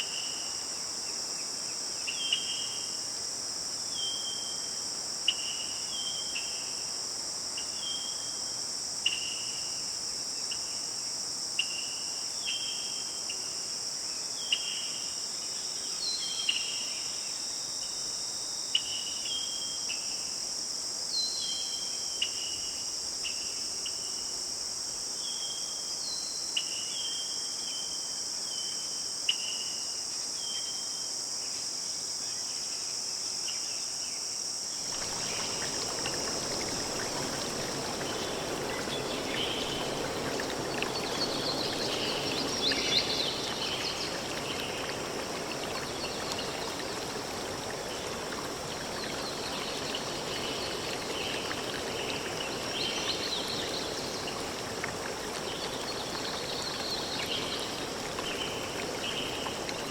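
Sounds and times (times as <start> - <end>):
crickets chorus: 0.0 - 59.9.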